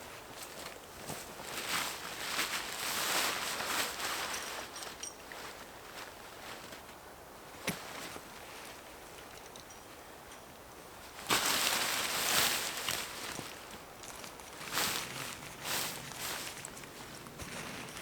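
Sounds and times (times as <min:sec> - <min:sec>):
rustling and crunching: 0:00.0 - 0:18.0.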